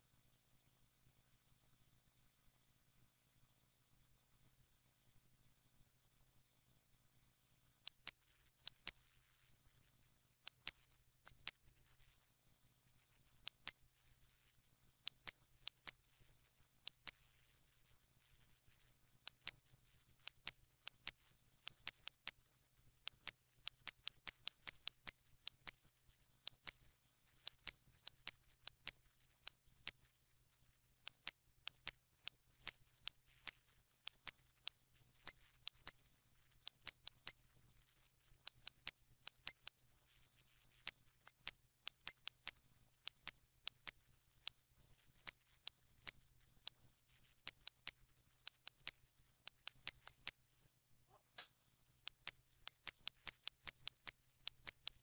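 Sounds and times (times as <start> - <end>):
faint low hum: 0.0 - 55.0
computer mouse buttons clicking: 7.9 - 12.3, 12.9 - 55.0.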